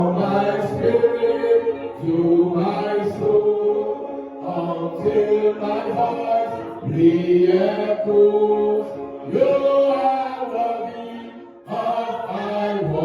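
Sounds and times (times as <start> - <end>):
voices singing gospel song: 0.0 - 13.0.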